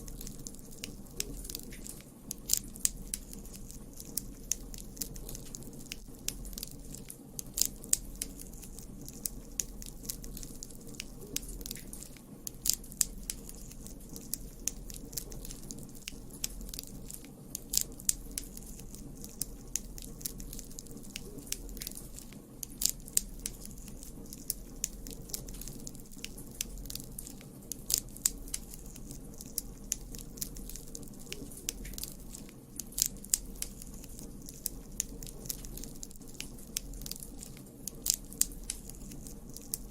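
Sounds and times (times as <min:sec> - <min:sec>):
low rumble of flame: 0:00.0 - 0:39.9
wood crackling and popping: 0:00.0 - 0:39.9.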